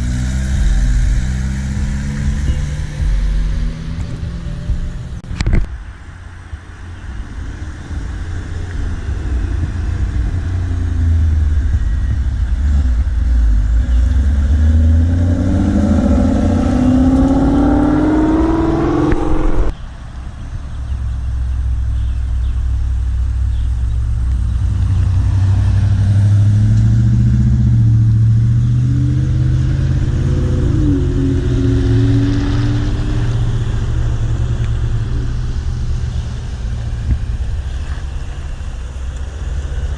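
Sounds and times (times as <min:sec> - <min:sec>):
car engine accelerating: 0:00.0 - 0:05.7, 0:08.0 - 0:19.8, 0:20.6 - 0:39.9
car engines running: 0:00.0 - 0:39.9.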